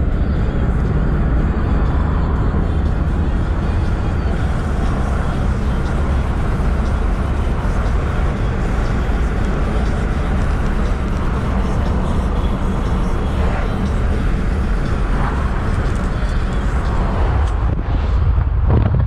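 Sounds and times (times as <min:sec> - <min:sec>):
car engine drone: 0:00.0 - 0:19.0
constant low hum: 0:00.0 - 0:19.0
tyre and road noise: 0:00.0 - 0:19.0.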